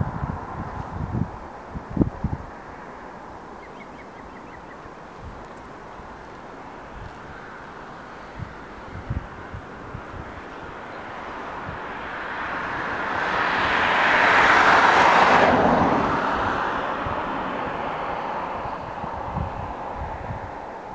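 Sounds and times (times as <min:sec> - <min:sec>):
airliner engine noise: 0:00.0 - 0:20.9.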